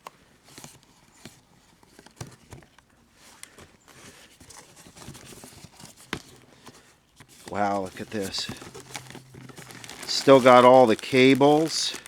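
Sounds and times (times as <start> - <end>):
cardboard box handling: 0.5 - 12.0.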